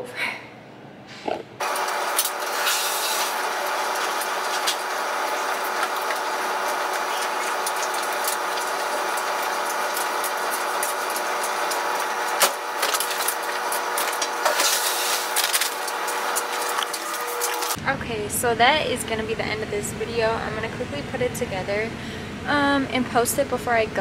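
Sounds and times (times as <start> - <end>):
laundry machines humming: 1.6 - 24.0.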